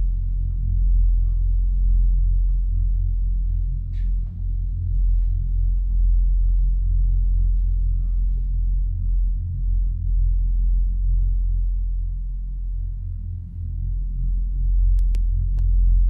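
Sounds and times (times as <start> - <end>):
deep pulsing low drone: 0.0 - 16.0.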